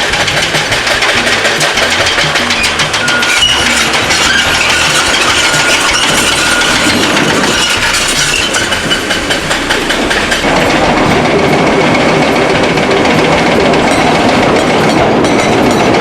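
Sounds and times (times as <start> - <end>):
heavy machinery diesel engine running: 0.0 - 16.0.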